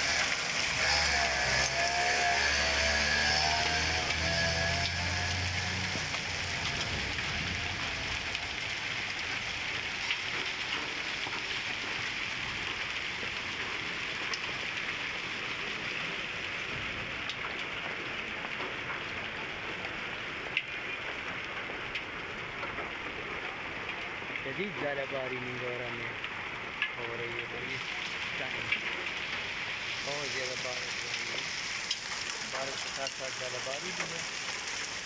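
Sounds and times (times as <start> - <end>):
sharp sleet ticks: 0.0 - 16.2, 20.5 - 35.0
heavy rain and sleet: 0.0 - 35.0.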